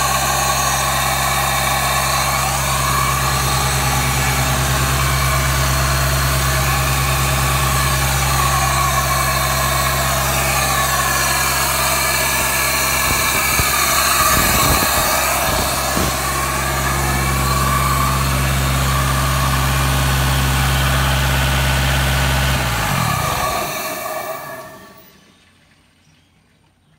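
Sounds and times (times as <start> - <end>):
diesel engine idling: 0.0 - 26.2
engine winding down: 0.0 - 26.5.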